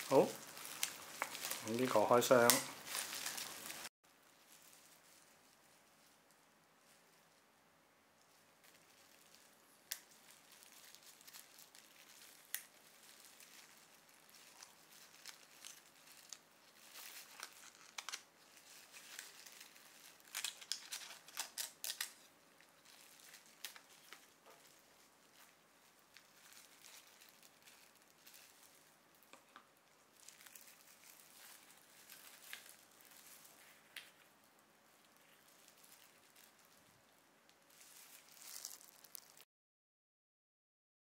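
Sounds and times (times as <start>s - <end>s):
plastic wrap crinkling: 0.0s - 7.4s, 8.2s - 39.5s.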